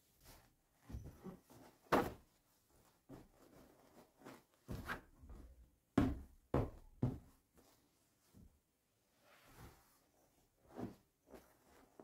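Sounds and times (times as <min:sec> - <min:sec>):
fabric rustling: 0:00.0 - 0:05.6, 0:07.2 - 0:12.0.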